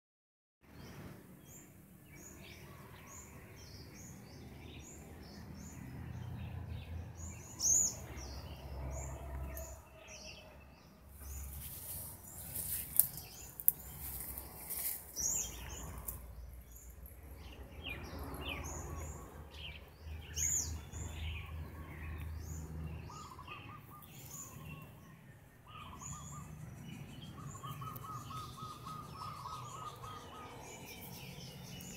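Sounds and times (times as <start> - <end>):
birds chirping: 0.7 - 31.9.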